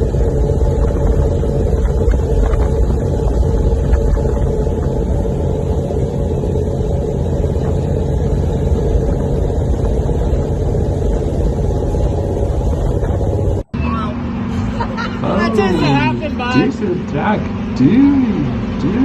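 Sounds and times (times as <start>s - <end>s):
road noise: 0.0s - 19.0s
truck engine droning: 0.0s - 19.0s.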